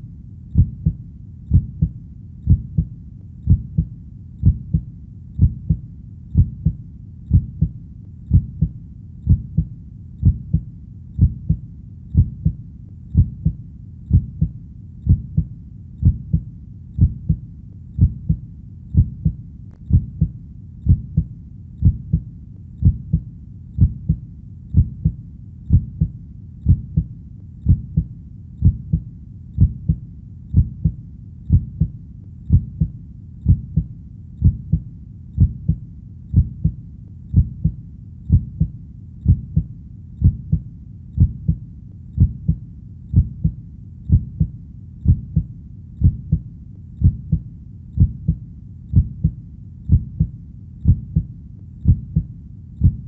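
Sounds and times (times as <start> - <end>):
faint low rumble: 0.0 - 53.0
heartbeat double thump: 0.6 - 2.9, 3.5 - 10.6, 11.2 - 11.6, 12.2 - 17.4, 18.0 - 18.4, 19.0 - 23.2, 23.8 - 24.2, 24.8 - 26.1, 26.7 - 27.1, 27.7 - 29.0, 29.6 - 31.9, 32.5 - 34.8, 35.4 - 40.6, 41.2 - 41.6, 42.2 - 46.4, 47.0 - 47.4, 48.0 - 53.0.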